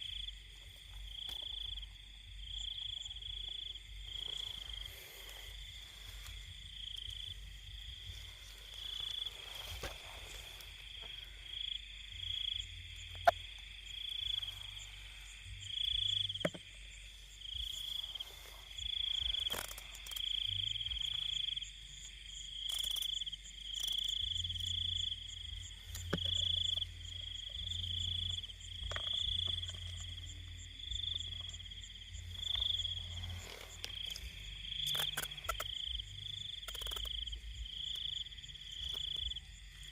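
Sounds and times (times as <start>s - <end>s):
high-pitched insect trill: 0.0s - 39.9s
low frog calls: 0.0s - 39.9s.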